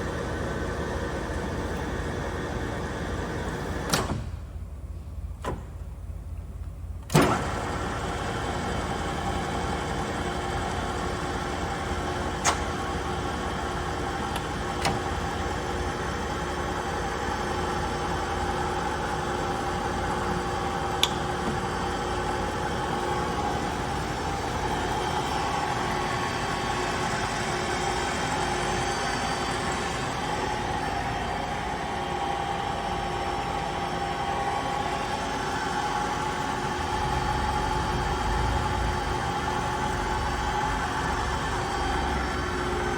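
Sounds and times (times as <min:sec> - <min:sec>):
lathe humming with gear whine: 0:00.0 - 0:03.9, 0:07.2 - 0:42.9.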